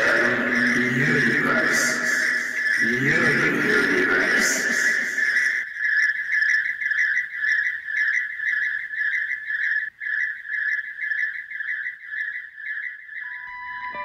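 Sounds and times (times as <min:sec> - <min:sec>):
rhythmic chirping: 0:00.0 - 0:14.0.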